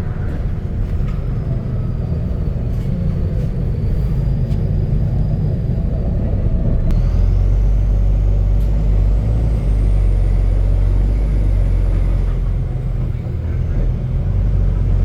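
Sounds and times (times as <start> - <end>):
bus diesel engine with loud exhaust: 0.0 - 15.0.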